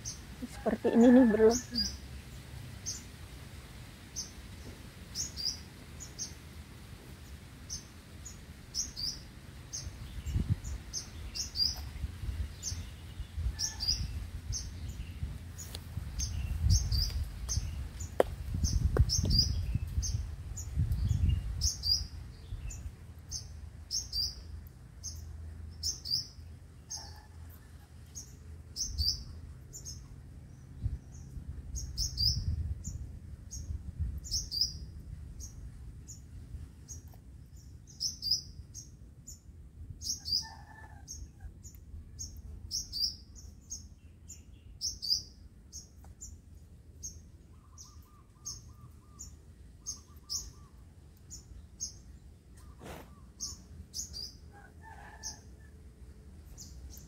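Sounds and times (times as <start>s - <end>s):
small bird chirping: 4.1s - 6.4s, 7.2s - 27.3s, 28.0s - 46.4s, 47.0s - 54.5s.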